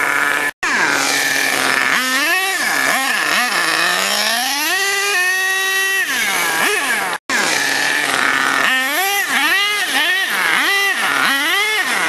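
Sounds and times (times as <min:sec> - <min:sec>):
model truck engine revving: 0:00.0 - 0:12.0.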